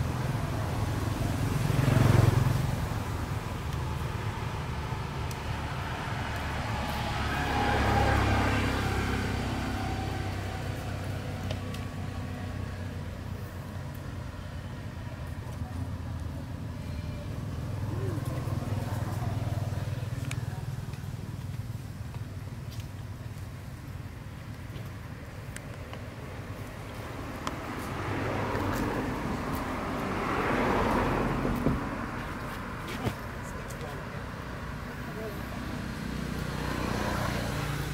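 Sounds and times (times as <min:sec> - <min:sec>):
distant vehicles passing: 0:00.0 - 0:37.9.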